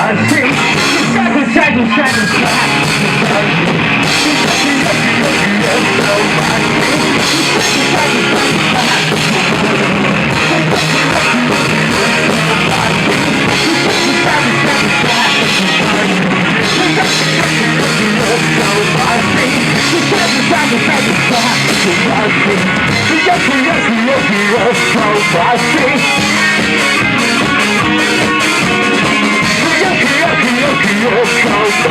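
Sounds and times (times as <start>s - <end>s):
rock band playing live: 0.0s - 31.9s.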